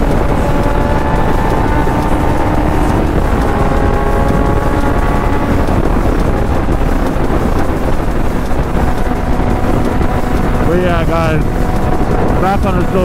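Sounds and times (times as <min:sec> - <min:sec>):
motorcycle engine cruising: 0:00.0 - 0:13.0
wind rush on microphone: 0:00.0 - 0:13.0.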